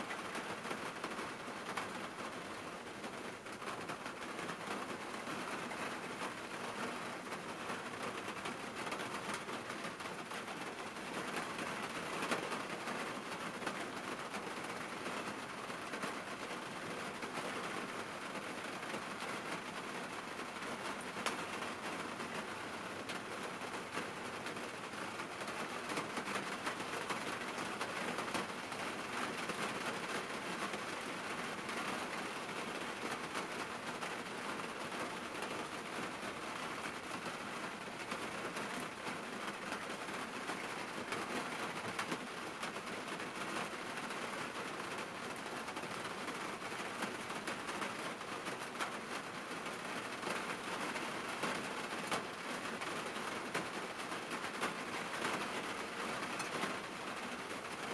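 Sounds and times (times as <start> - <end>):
rain pattering on a car: 0.0 - 57.9.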